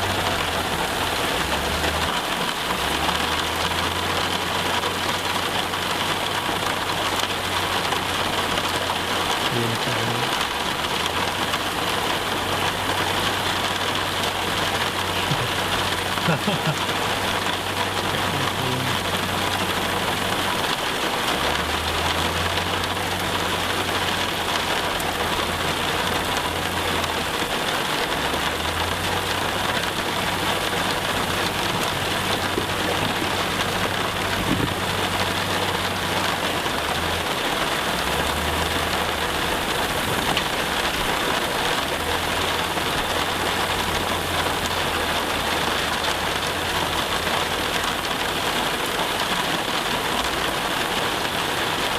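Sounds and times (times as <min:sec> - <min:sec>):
heavy machinery engine hum: 0:00.0 - 0:51.9
steady rain falling: 0:00.0 - 0:51.9.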